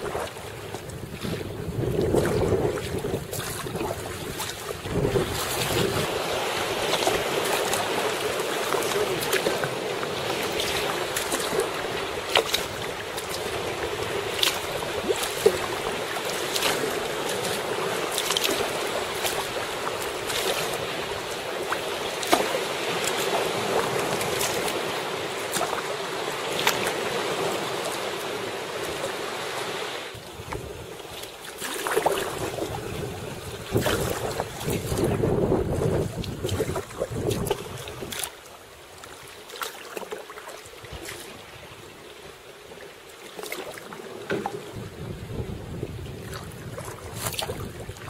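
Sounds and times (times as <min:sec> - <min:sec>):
waves washing on rocks: 0:00.0 - 0:42.4
paddle splashes: 0:00.0 - 0:48.0
water lapping around kayak: 0:00.0 - 0:48.0.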